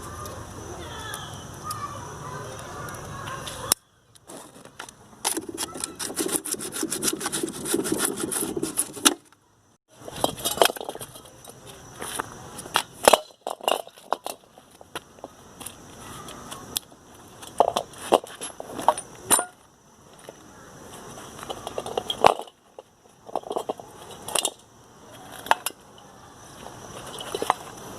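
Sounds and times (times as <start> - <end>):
rustling of handled objects: 2.4 - 27.9.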